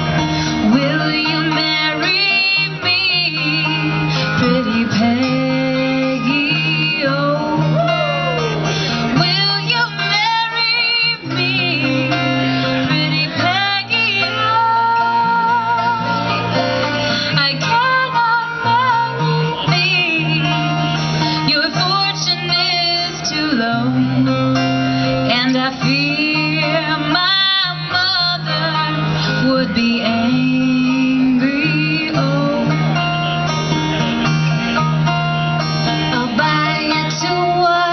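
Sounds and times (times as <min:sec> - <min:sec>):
acoustic guitar and banjo playing: 0:00.0 - 0:37.9
women singing: 0:00.6 - 0:08.4, 0:09.1 - 0:16.4, 0:17.2 - 0:20.8, 0:21.4 - 0:32.9, 0:36.1 - 0:37.9.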